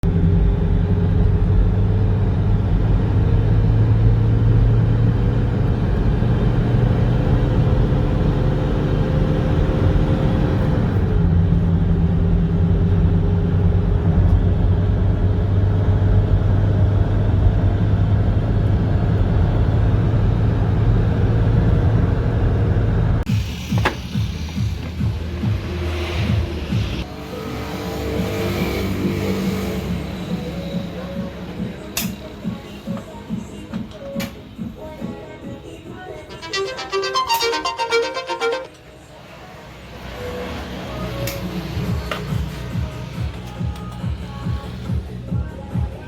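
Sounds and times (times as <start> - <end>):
diesel engine with fan roar: 0.0 - 36.6, 38.3 - 46.0.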